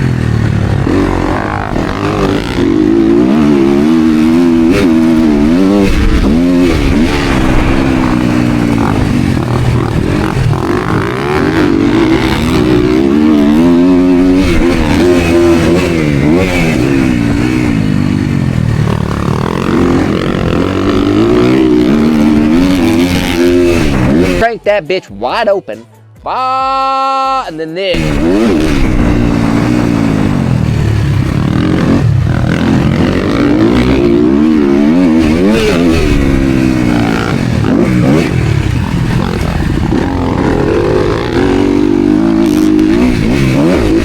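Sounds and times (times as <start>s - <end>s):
dirt bike engine revving: 0.0s - 24.6s, 27.9s - 44.0s.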